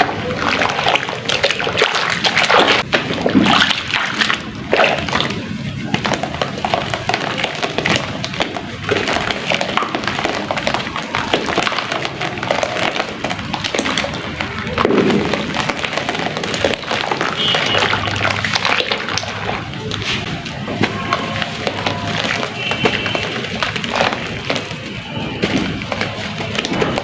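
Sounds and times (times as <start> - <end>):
cement chunks crumbling: 0.0 - 27.0.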